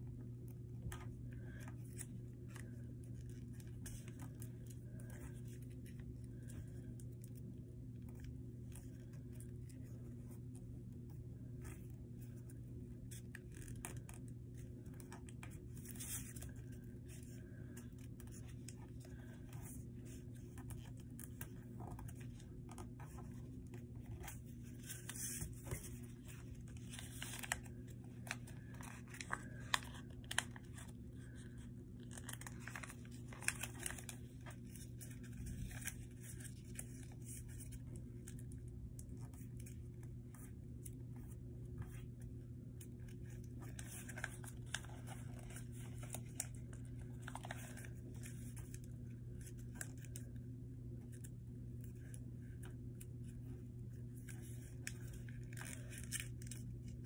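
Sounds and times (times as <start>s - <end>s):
steady low hum: 0.0s - 57.0s
paper rustling and crinkling: 0.2s - 57.0s.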